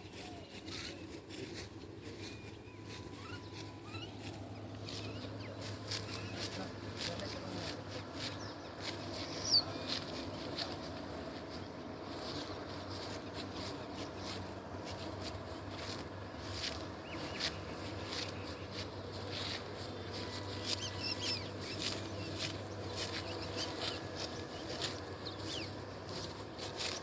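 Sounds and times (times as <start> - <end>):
rice stalks cutting and rustling: 0.0 - 27.0
bird chirping: 2.0 - 27.0.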